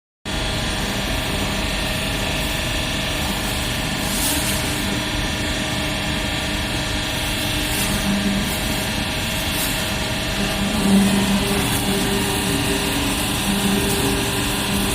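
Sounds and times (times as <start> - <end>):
baler motor and pump humming: 0.3 - 14.9.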